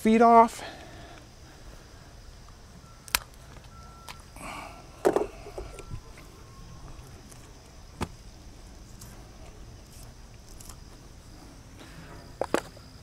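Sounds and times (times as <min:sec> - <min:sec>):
high-pitched hum: 0:00.9 - 0:13.0.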